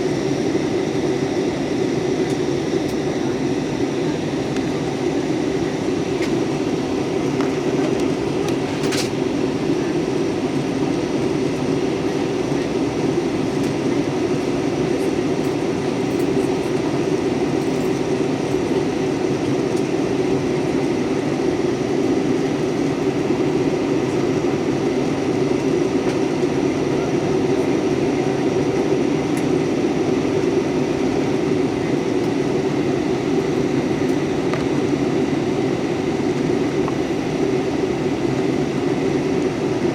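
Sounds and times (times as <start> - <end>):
jet cabin low rumble: 0.0 - 39.9.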